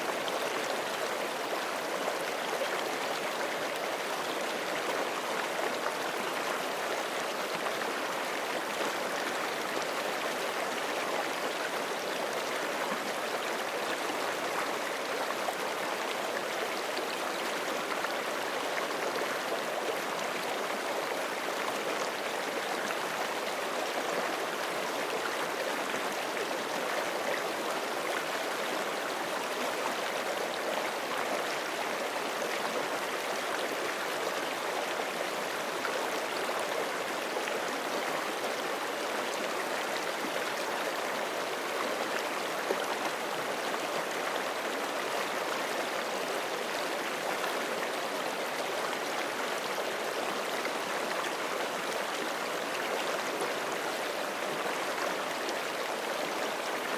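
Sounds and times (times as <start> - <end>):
creek water babbling over rocks: 0.0 - 56.9.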